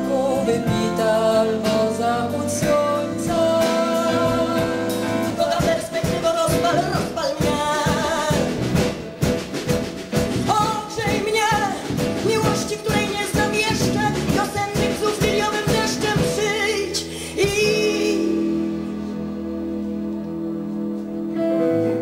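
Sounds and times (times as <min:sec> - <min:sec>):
woman singing into a microphone: 0:00.0 - 0:08.6, 0:10.4 - 0:19.9
electric bass guitar: 0:00.0 - 0:10.6, 0:11.5 - 0:22.0
band playing: 0:00.0 - 0:22.0.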